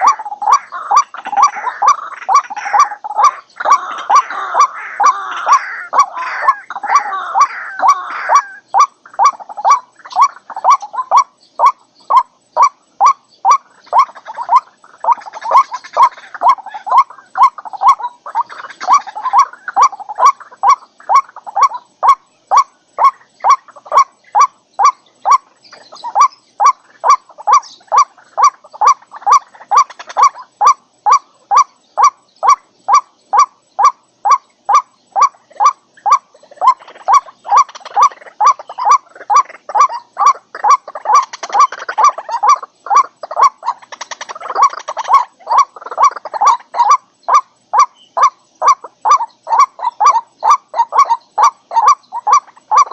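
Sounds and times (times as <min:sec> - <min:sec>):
rough overlapping bird calls: 0:00.0 - 0:52.9
waterhen calling: 0:00.0 - 0:52.9.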